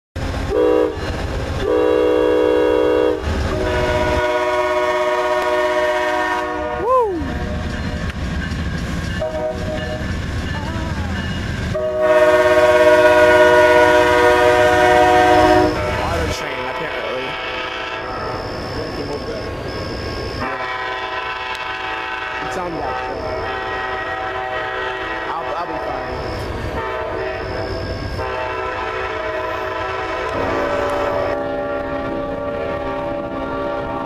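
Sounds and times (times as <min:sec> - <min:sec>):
locomotive low rumble: 0:00.2 - 0:34.0
train wheels on rails: 0:00.2 - 0:34.0
train air horn blasts: 0:00.4 - 0:08.0, 0:09.2 - 0:10.0, 0:11.7 - 0:19.1, 0:20.3 - 0:34.0.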